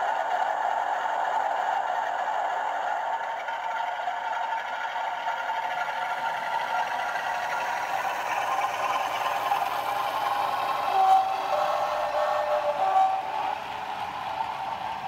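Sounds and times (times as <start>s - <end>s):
diesel engine from small speaker: 0.0s - 15.0s
model train wheels clattering: 0.4s - 15.0s.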